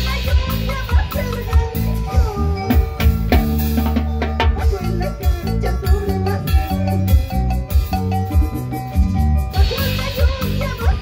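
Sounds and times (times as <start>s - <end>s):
bass notes: 0.0s - 11.0s
drum kit steady beat: 0.0s - 11.0s
gliding melody line: 1.7s - 11.0s.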